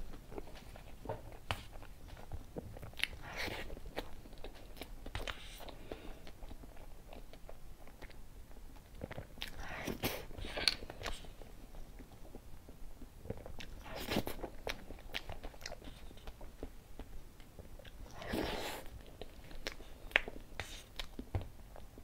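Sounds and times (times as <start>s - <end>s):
person chewing soft cake: 0.0s - 22.0s.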